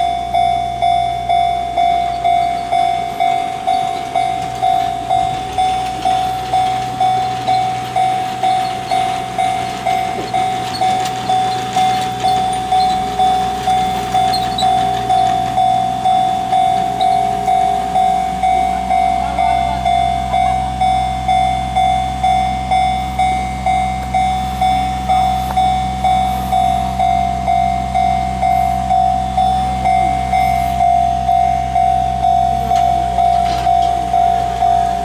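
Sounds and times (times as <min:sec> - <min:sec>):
level-crossing warning bell: 0:00.0 - 0:35.0.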